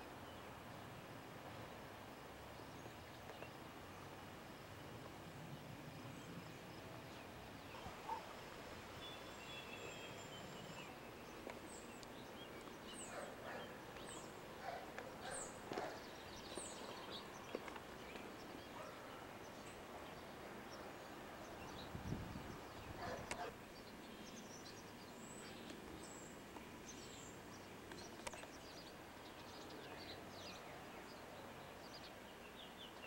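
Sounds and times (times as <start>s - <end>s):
faint outdoor background noise: 0.0s - 33.0s
birds chirping: 5.8s - 33.0s.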